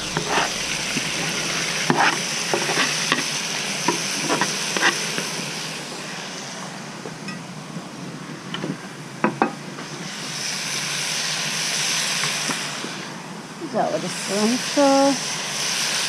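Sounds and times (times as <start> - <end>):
frying sizzle: 0.0 - 16.0.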